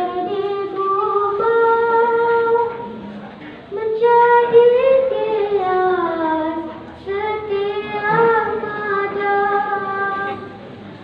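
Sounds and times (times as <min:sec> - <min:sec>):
girl singing unaccompanied: 0:00.0 - 0:02.9, 0:03.7 - 0:10.6.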